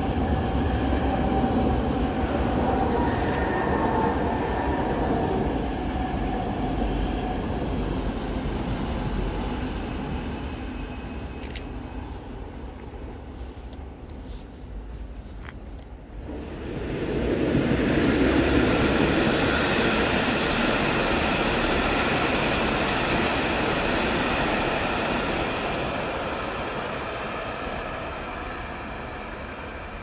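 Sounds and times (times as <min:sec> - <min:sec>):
passenger train passing: 0:00.0 - 0:30.0.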